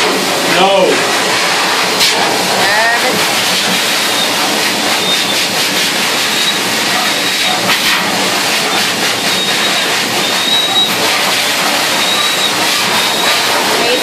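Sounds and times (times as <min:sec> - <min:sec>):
blow dryer running: 0:00.0 - 0:14.0.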